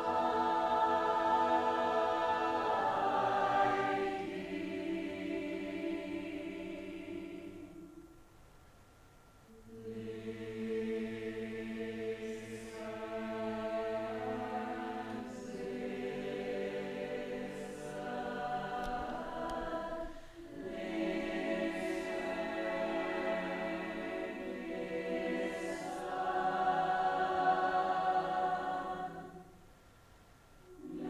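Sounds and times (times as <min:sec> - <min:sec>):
voices singing in harmony: 0:00.0 - 0:08.2, 0:09.5 - 0:29.6, 0:30.7 - 0:31.0.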